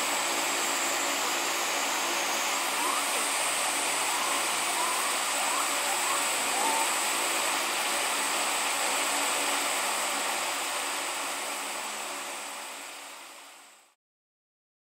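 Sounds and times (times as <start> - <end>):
steady rushing noise: 0.0 - 13.9
faint high-pitched whine: 0.0 - 14.0.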